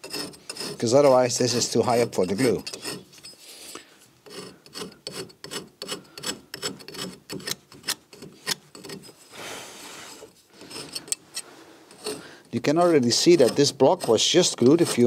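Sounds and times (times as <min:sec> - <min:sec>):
hand tool rasping concrete: 0:00.0 - 0:03.1, 0:04.2 - 0:09.2, 0:10.1 - 0:11.2, 0:11.9 - 0:15.0.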